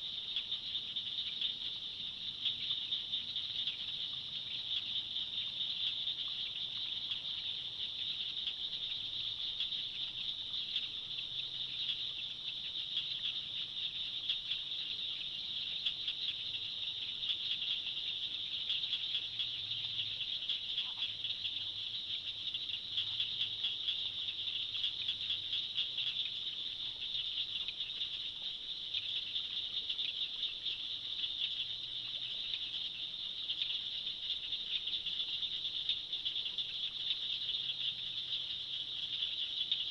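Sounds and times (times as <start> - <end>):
swamp chorus of trilling animals: 0.0 - 39.9.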